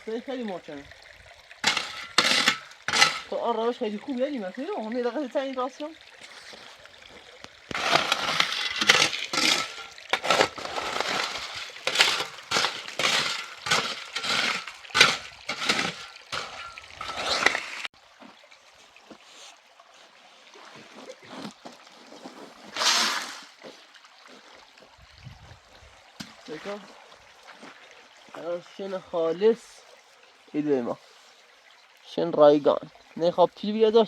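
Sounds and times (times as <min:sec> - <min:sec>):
water splashing and sloshing: 0:00.0 - 0:33.2.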